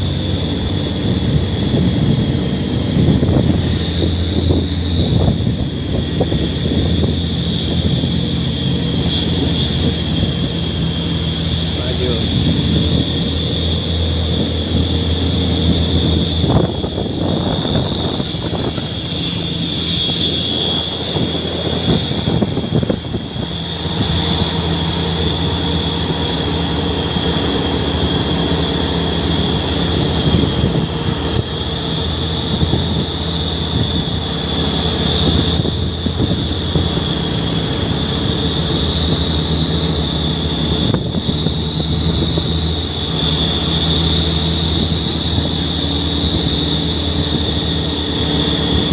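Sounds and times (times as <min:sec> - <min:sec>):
high whine: 0:00.0 - 0:48.9
truck engine running: 0:00.0 - 0:48.9.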